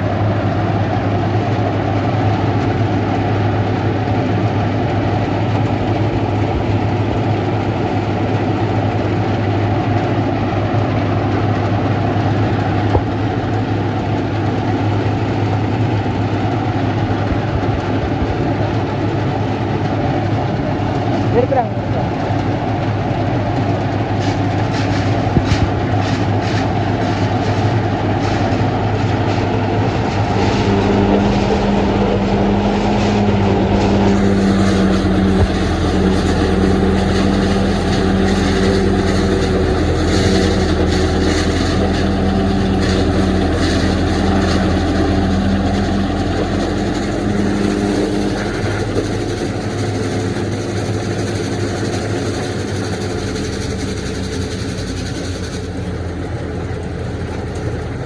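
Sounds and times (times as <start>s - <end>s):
silage harvester engine drone: 0.0s - 58.0s
strong hum: 0.0s - 58.0s.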